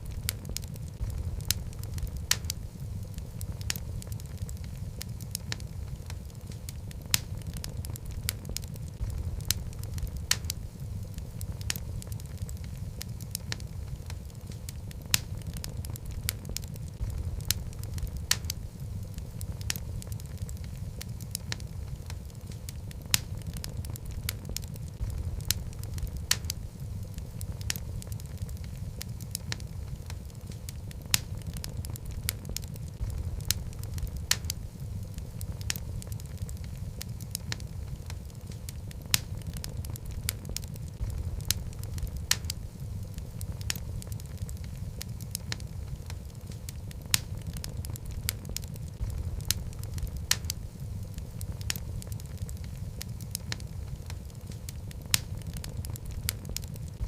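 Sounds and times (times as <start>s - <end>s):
burning wood crackling and popping: 0.0s - 57.0s
fire flames rumbling: 0.0s - 57.0s.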